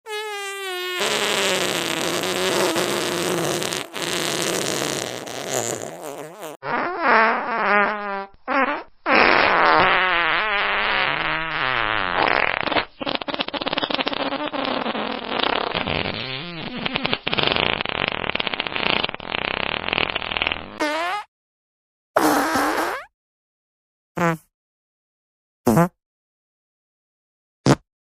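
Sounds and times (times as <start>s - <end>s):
fart sound effects: 0.1s - 21.3s, 22.2s - 23.1s, 24.2s - 24.5s, 25.7s - 26.0s, 27.6s - 27.9s.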